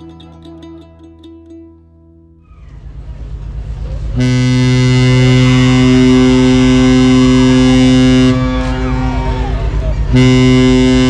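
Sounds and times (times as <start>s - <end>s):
ship horn long low blast: 1.7s - 11.0s.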